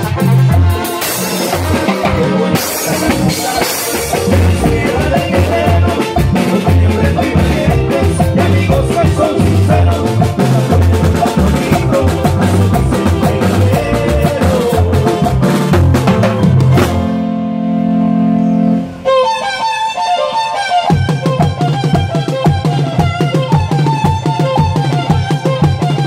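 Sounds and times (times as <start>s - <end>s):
held keyboard chord: 0.0s - 23.0s
keyboard melody: 0.0s - 26.0s
live band dance music: 0.0s - 26.0s.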